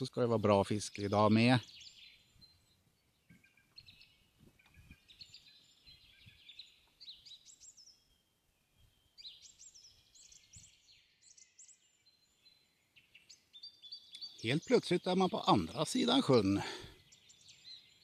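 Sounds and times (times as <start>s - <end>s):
small birds chirping and trilling: 0.0s - 18.0s.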